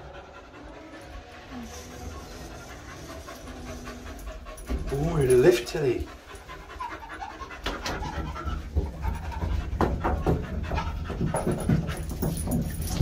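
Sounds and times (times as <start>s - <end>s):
puppy panting: 0.0s - 13.0s.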